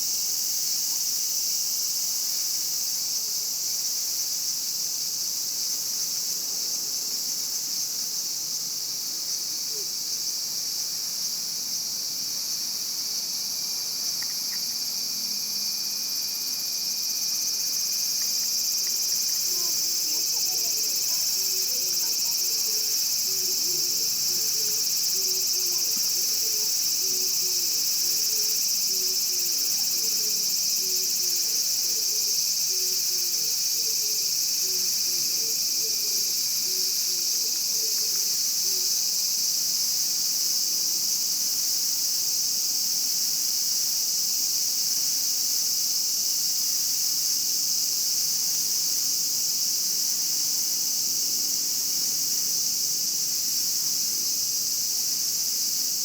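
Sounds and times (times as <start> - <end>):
cicadas buzzing drone: 0.0 - 56.0.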